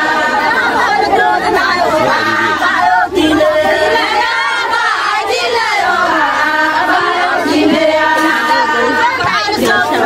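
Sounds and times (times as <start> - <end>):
crowd chatter: 0.0 - 10.0
group of voices singing: 0.0 - 10.0.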